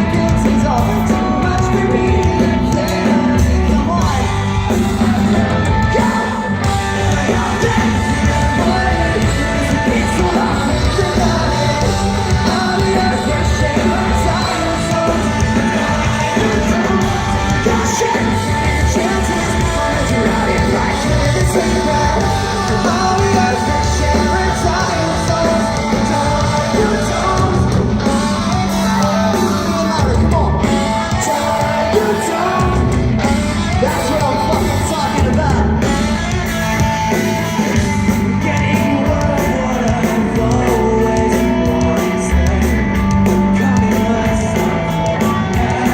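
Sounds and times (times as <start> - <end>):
lead singer singing: 0.0 - 45.9
pop-punk band playing live: 0.0 - 45.9.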